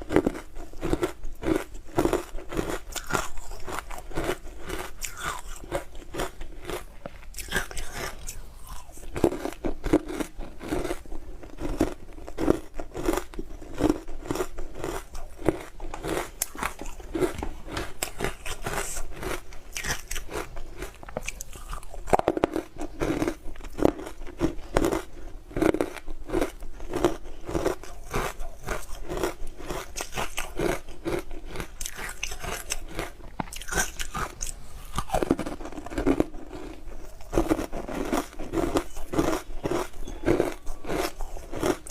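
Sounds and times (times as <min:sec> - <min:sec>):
crunching frozen ice chewing: 0:00.0 - 0:41.9.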